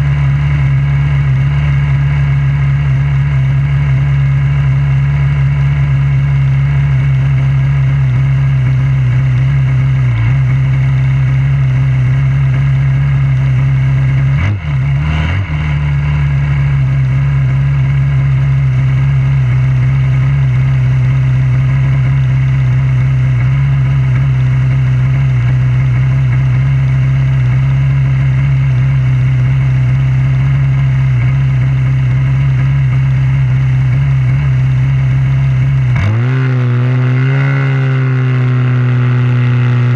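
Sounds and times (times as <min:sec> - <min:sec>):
single-cylinder engine idling: 0:00.0 - 0:39.9.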